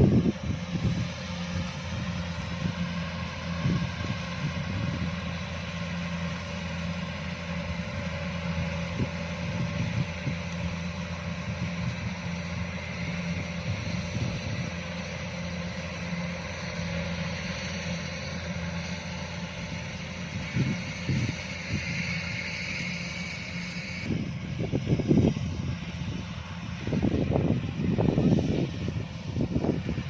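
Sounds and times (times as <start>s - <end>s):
combine harvester engine running: 0.0s - 30.0s.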